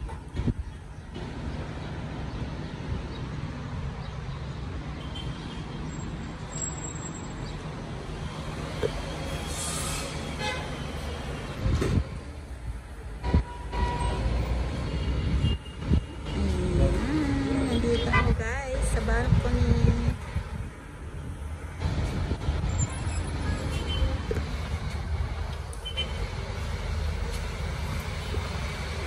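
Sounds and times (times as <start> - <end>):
city traffic hum: 0.0 - 29.0.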